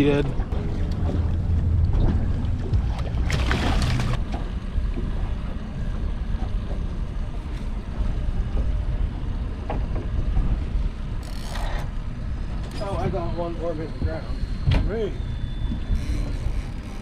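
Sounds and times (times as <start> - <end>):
boat engine low rumble: 0.0 - 17.0.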